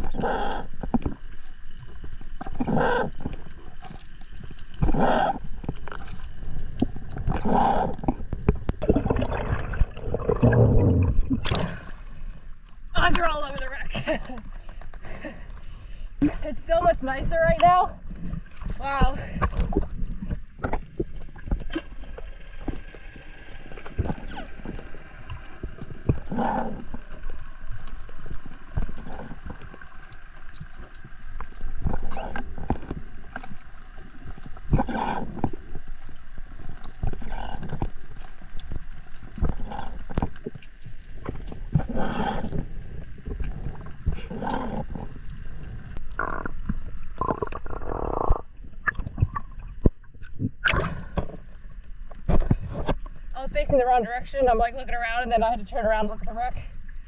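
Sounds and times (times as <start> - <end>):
rushes of water noise: 0.0 - 14.8, 15.7 - 54.4.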